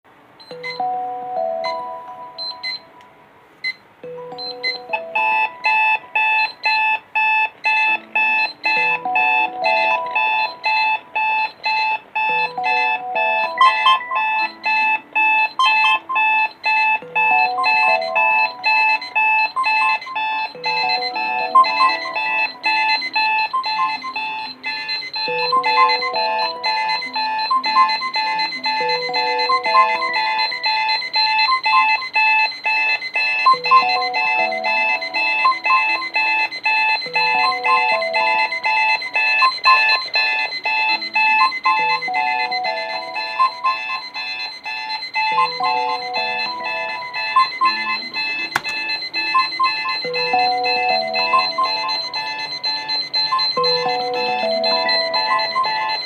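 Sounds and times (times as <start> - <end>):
rapid pulsing alarm beep: 0.4 - 2.9, 3.6 - 56.0
alarm clock melody: 0.4 - 56.0.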